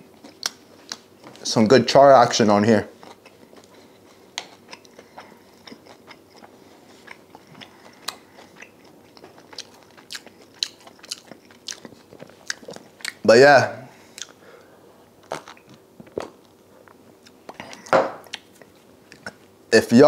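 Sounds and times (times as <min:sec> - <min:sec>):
man chewing: 0:00.0 - 0:01.4, 0:02.9 - 0:13.2, 0:14.0 - 0:19.6.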